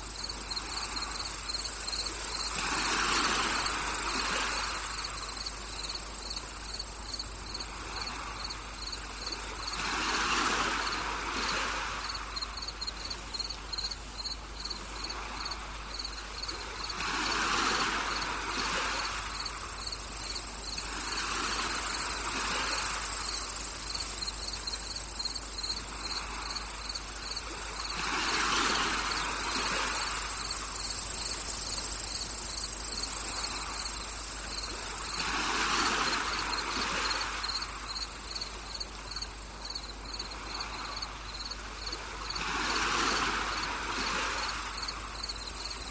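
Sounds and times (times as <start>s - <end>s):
cricket chirping: 0.0s - 45.9s
insect trill: 0.0s - 45.9s.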